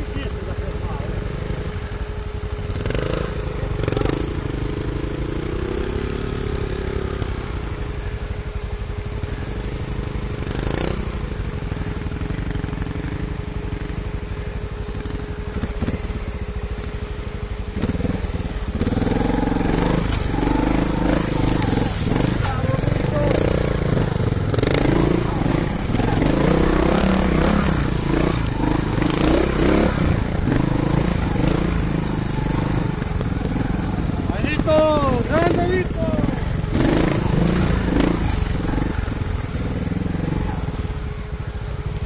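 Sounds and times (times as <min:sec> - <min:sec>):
motorcycle engines running: 0:00.0 - 0:42.0.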